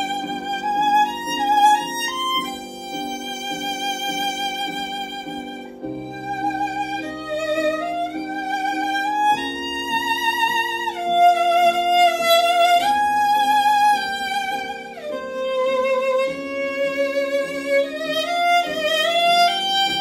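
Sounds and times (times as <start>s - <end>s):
solo violin melody: 0.0s - 20.0s.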